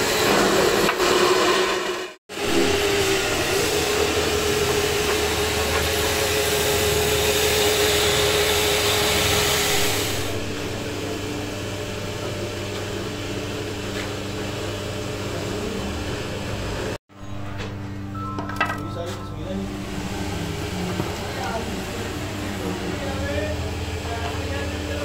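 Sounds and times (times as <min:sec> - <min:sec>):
loud machine whine: 0:00.0 - 0:25.0
motor hum: 0:02.3 - 0:18.1, 0:19.4 - 0:25.0.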